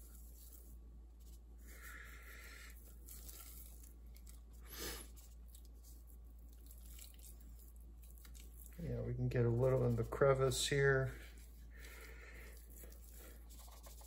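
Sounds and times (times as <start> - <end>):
hands rubbing spice into meat: 0.0 - 14.0.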